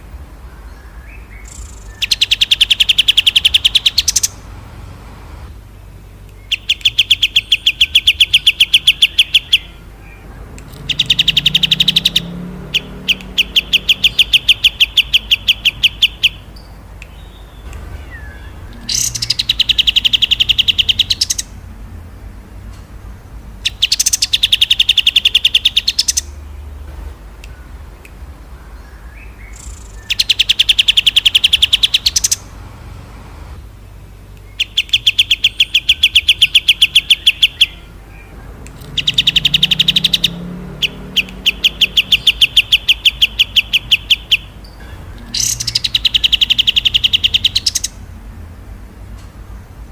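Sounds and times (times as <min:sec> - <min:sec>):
songbird rattling trill: 0:00.6 - 0:04.6, 0:05.6 - 0:26.8, 0:27.5 - 0:32.6, 0:34.4 - 0:48.2.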